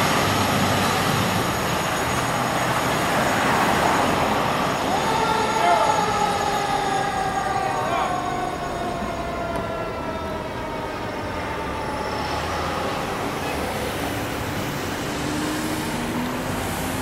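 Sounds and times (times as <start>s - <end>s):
diesel engine rumble: 0.0s - 17.0s
fire truck warning tone: 0.0s - 17.0s
road noise: 0.0s - 17.0s.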